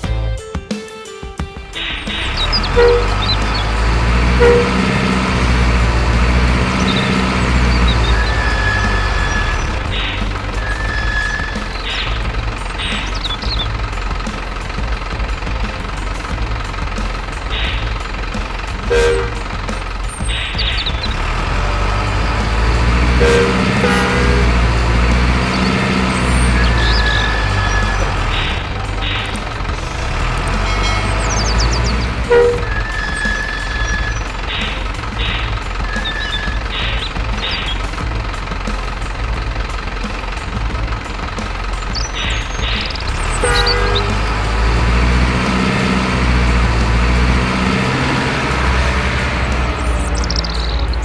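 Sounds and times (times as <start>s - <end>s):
truck engine running: 0.0s - 51.0s
horn toot: 1.7s - 13.5s, 17.2s - 37.8s, 42.2s - 51.0s.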